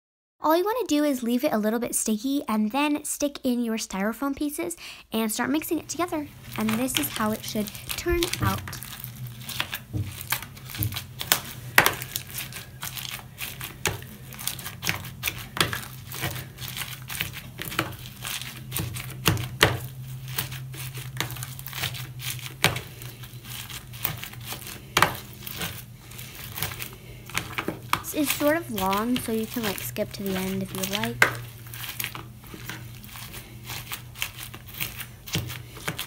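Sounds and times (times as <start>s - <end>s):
steady low hum: 4.2s - 36.0s
bead slime crackling: 5.5s - 36.0s.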